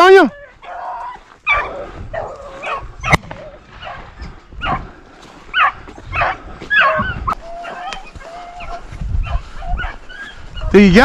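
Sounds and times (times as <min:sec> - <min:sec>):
dogs baying: 0:00.3 - 0:10.7.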